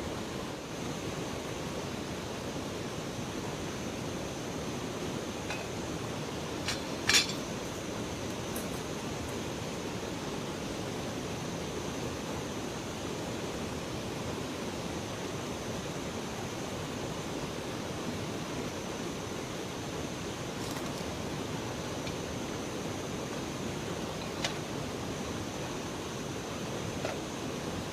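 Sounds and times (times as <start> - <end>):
river water rushing: 0.0 - 27.9.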